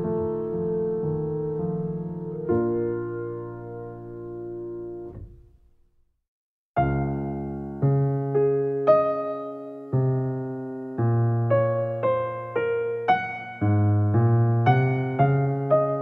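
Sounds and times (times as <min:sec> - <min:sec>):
electric piano music: 0:00.0 - 0:05.5, 0:06.8 - 0:16.0.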